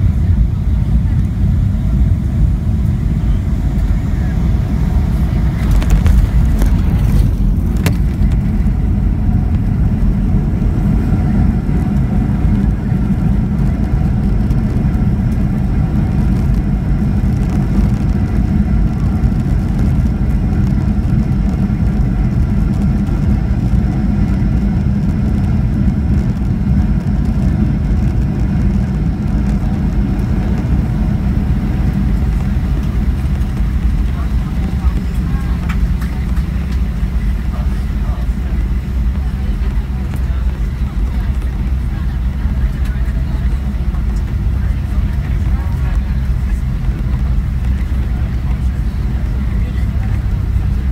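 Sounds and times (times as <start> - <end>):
aircraft engines and wheels rumbling: 0.0 - 50.9.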